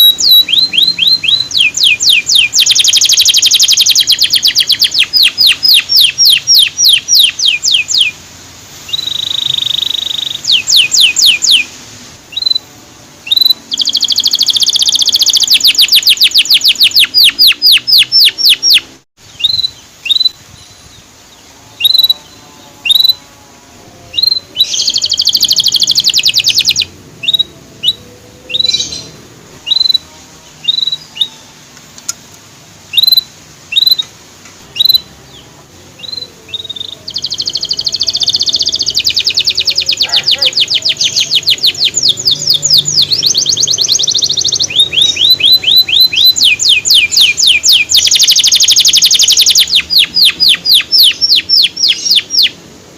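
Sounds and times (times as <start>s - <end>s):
canary chirping and trilling: 0.0s - 8.2s, 8.9s - 11.7s, 12.3s - 21.0s, 21.7s - 23.2s, 24.0s - 31.6s, 32.9s - 34.1s, 34.7s - 52.6s.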